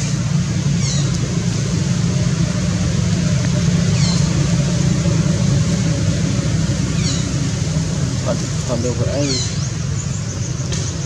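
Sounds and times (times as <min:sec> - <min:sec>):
steady low engine hum: 0:00.0 - 0:11.0.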